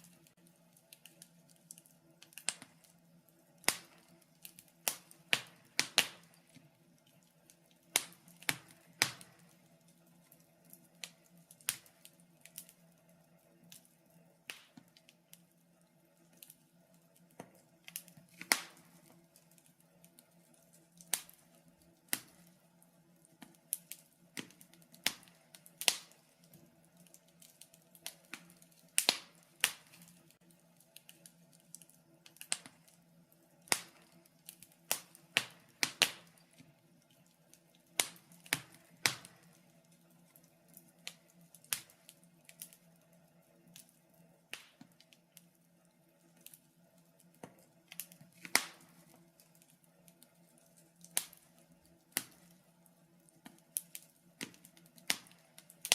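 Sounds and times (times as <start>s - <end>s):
faint steady hum: 0.0s - 55.9s
wood fire crackling: 0.0s - 55.9s.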